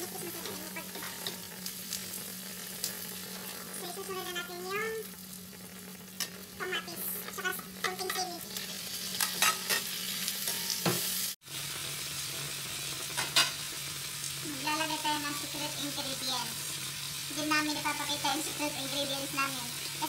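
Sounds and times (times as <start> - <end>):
tomatoes sizzling in hot oil: 0.0 - 20.0.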